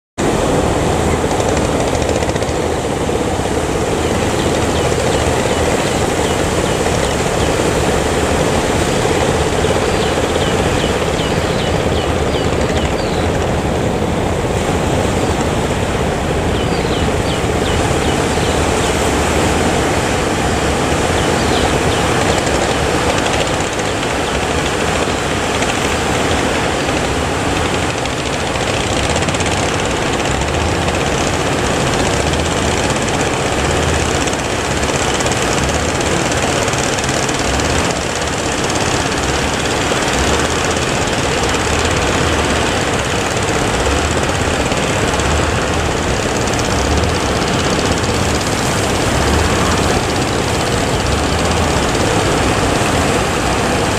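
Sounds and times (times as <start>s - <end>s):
boat engine running: 0.2s - 53.9s.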